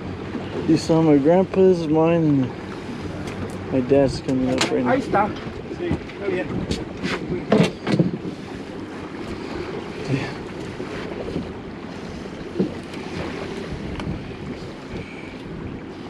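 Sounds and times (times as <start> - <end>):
sea water washing: 0.0 - 16.0
wind buffeting microphone: 0.0 - 16.0.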